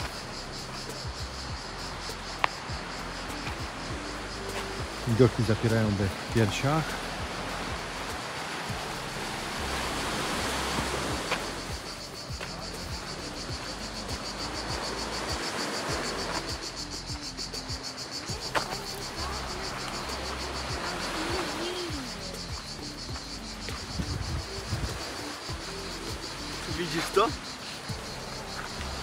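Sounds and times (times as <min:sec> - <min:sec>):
insects shrilling: 0:00.0 - 0:29.0
steady hiss: 0:00.0 - 0:29.0.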